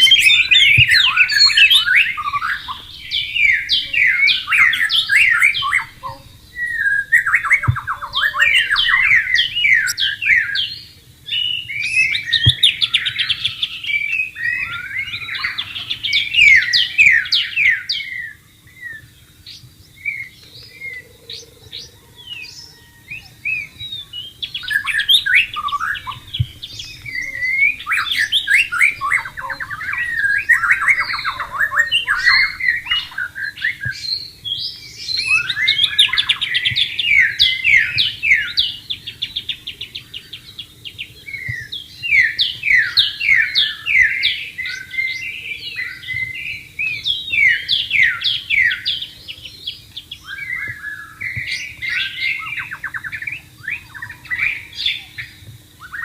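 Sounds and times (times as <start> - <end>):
bird singing whistled phrases: 0.0 - 19.1, 19.9 - 56.0.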